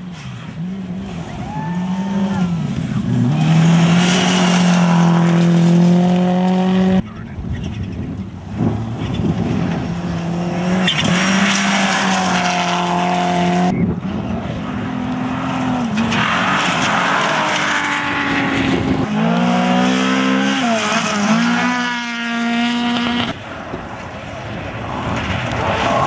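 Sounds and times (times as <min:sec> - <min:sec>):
rally cars passing at speed: 0:00.0 - 0:26.0.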